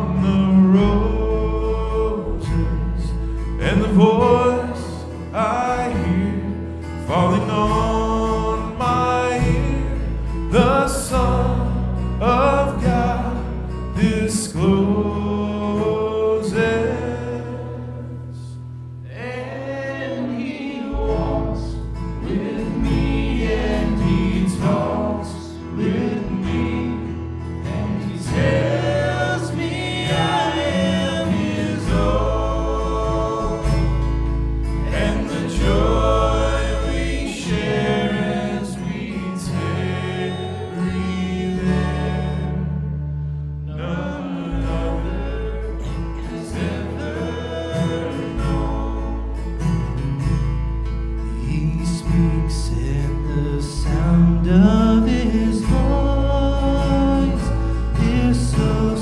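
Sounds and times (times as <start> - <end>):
voices singing gospel hymn: 0.0 - 59.0.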